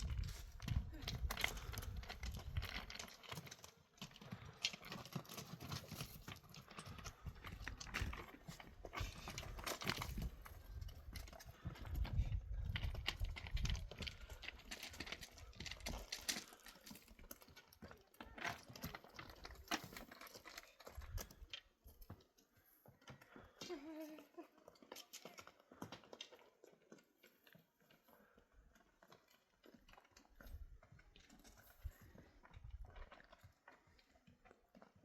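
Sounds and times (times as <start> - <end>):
hooves clip-clopping: 0.0 - 35.0.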